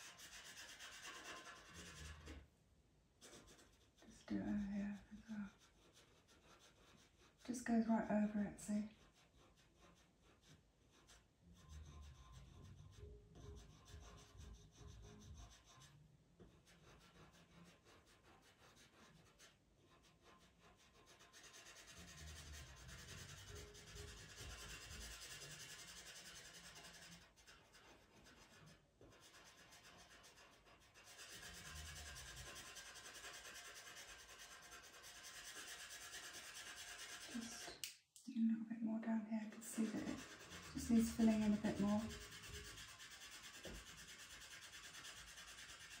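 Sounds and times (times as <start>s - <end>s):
pencil scratching on paper: 0.0s - 2.4s, 3.2s - 37.8s, 39.5s - 46.0s.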